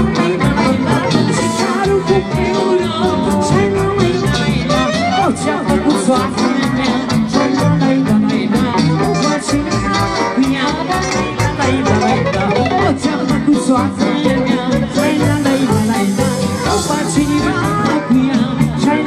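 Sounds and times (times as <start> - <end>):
accordion: 0.0 - 19.0
band playing upbeat dance music: 0.0 - 19.0
drum kit beat: 0.0 - 19.0
electric keyboard: 0.0 - 19.0.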